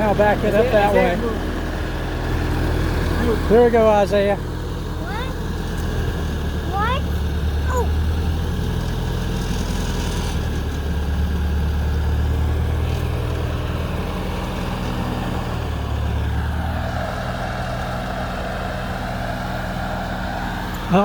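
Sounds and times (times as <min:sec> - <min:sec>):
tractor engine droning: 0:00.0 - 0:21.0.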